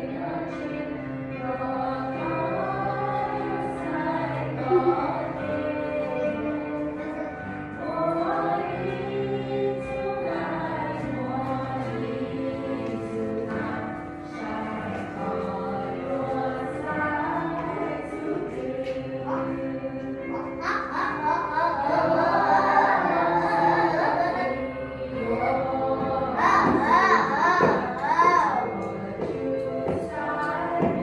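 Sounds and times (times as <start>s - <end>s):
choir singing held notes: 0.0s - 31.0s.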